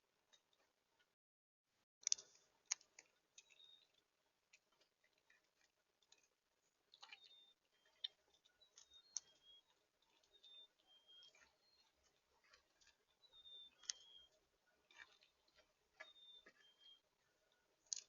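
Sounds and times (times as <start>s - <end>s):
seeds pecked and cracked: 1.8s - 18.0s.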